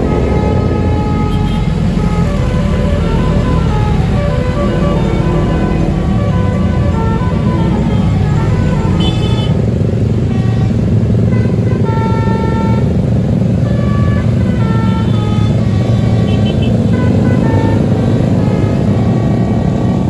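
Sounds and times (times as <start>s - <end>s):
bus engine rumble: 0.0s - 20.0s
multi-tone bus horn melody: 0.0s - 20.0s.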